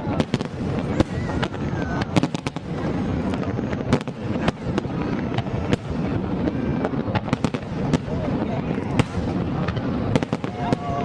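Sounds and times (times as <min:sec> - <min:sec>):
fireworks bangs: 0:00.0 - 0:11.0
low rumble of fireworks: 0:00.0 - 0:11.0.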